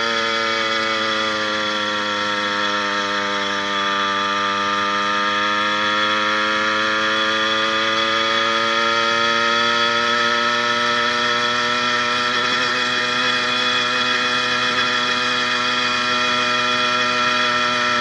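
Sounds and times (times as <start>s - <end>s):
two-stroke engine under load: 0.0s - 18.0s.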